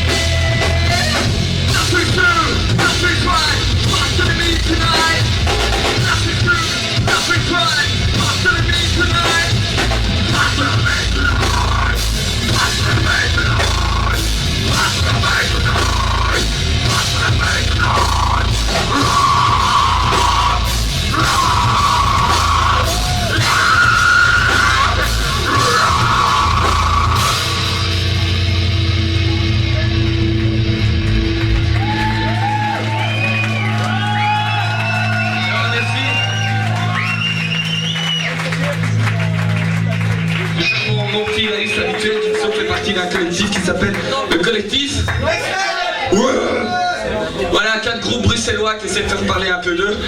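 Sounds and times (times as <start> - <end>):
distorted guitars: 0.0 - 45.3
drums: 0.0 - 50.0.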